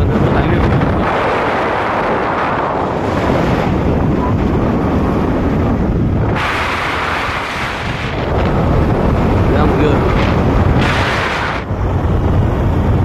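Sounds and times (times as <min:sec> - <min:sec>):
vehicle road noise: 0:00.0 - 0:13.0
wind rushing over microphone: 0:00.0 - 0:13.0.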